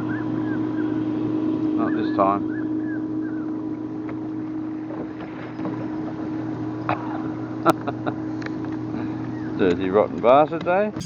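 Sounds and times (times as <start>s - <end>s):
motorboat engine running: 0.0s - 10.8s.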